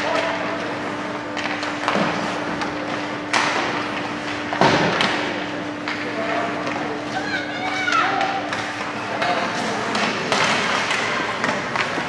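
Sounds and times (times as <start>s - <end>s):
steady hum: 0.0s - 12.0s
hockey sticks and puck knocking: 1.3s - 6.9s, 7.9s - 12.0s.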